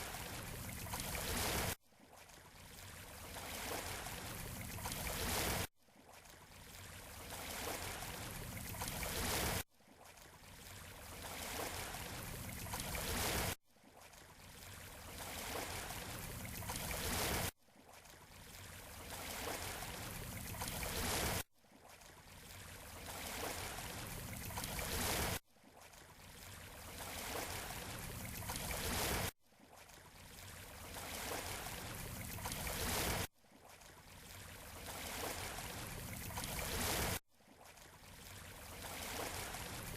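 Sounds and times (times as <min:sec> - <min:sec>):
shoreline water hiss: 0:00.0 - 0:01.8, 0:02.6 - 0:05.7, 0:06.6 - 0:09.6, 0:10.5 - 0:13.6, 0:14.4 - 0:17.5, 0:18.4 - 0:21.4, 0:22.4 - 0:25.4, 0:26.3 - 0:29.3, 0:30.2 - 0:39.9.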